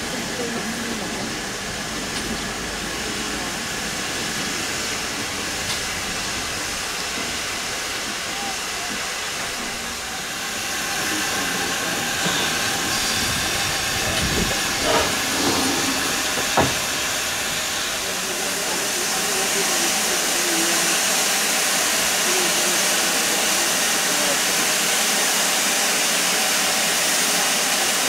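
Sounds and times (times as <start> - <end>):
steam hissing from locomotives: 0.0 - 28.0.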